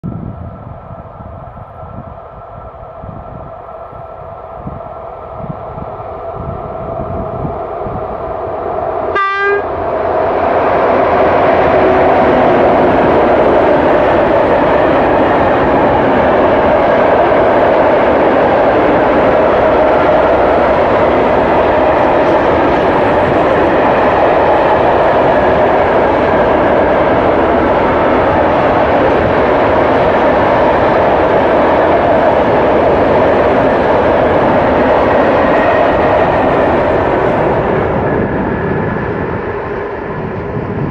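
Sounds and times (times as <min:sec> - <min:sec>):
electric locomotive hum: 0:00.0 - 0:40.9
freight wagon wheels rumbling on rail: 0:00.0 - 0:40.9.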